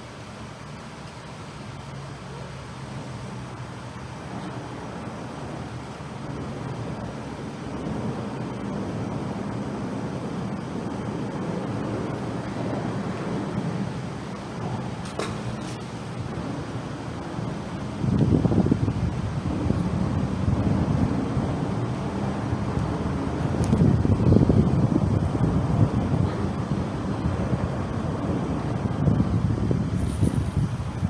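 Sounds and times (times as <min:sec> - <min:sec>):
steady traffic rush: 0:00.0 - 0:31.0
vehicle engine hum: 0:00.0 - 0:31.0.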